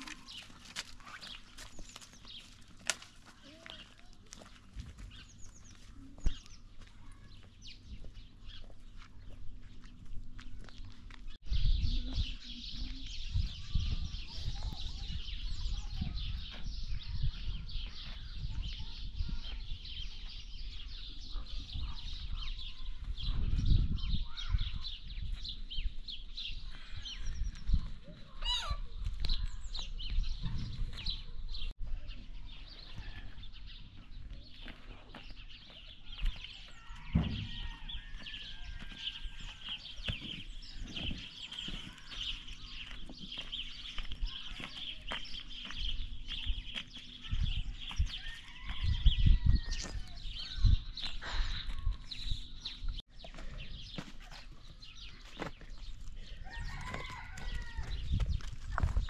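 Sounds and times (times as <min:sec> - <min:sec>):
footsteps on stony ground: 0:00.0 - 0:59.0
small birds chirping: 0:00.0 - 0:59.0.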